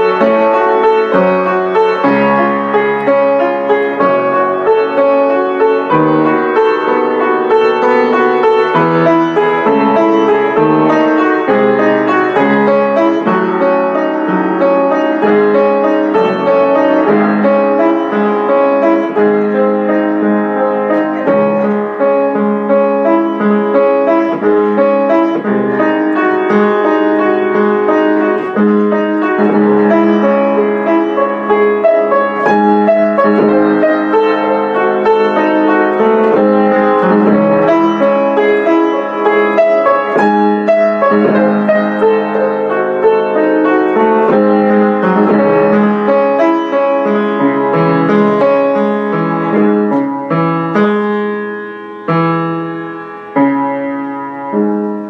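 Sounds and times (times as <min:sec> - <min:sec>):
solo piano classical piece: 0:00.0 - 0:55.0.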